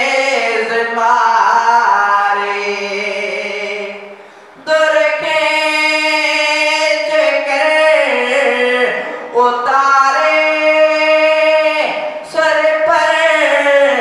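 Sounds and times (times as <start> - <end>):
man singing a lament: 0.0 - 14.0.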